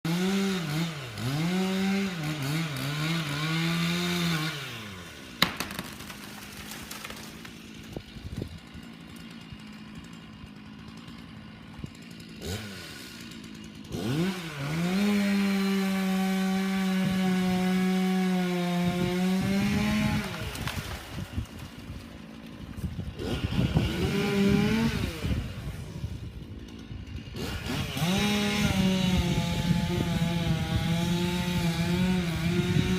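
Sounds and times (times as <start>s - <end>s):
chainsaw revving: 0.0s - 32.9s.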